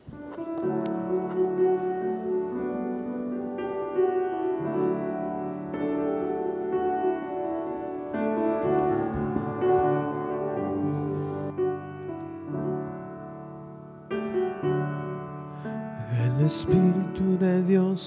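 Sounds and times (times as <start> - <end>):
keyboard playing slow chords: 0.0 - 18.0.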